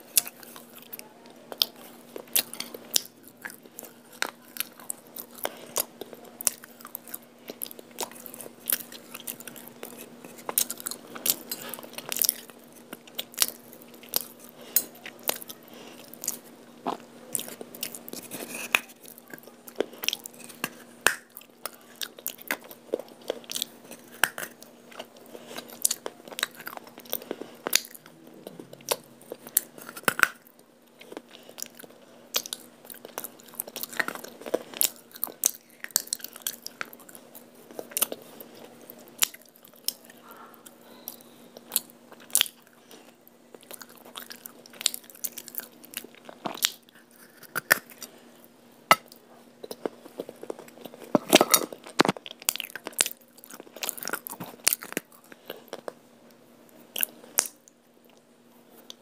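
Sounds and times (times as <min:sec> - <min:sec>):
crunching and chewing clay: 0:00.0 - 0:59.0.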